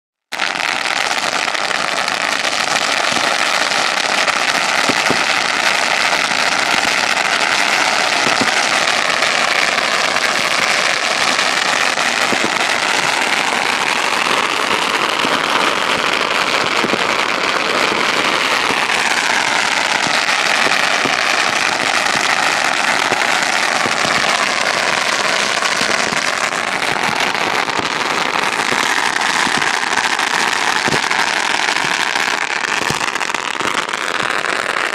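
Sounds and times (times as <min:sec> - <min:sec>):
firecrackers crackling: 0:00.3 - 0:34.9.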